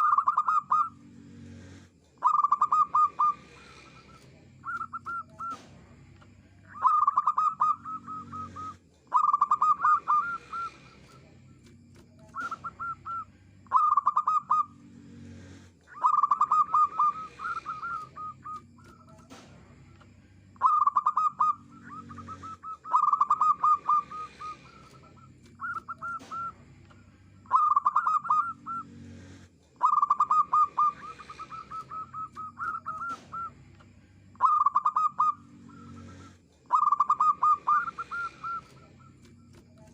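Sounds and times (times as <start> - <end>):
dove cooing: 0.0 - 5.7, 6.6 - 19.5, 20.6 - 33.6, 34.3 - 39.9.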